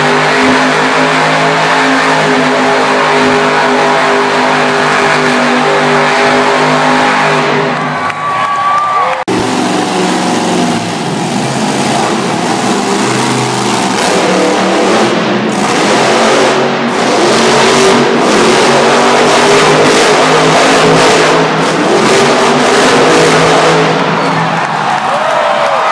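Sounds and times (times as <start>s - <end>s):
truck engine revving: 0.0s - 8.2s, 9.0s - 25.0s.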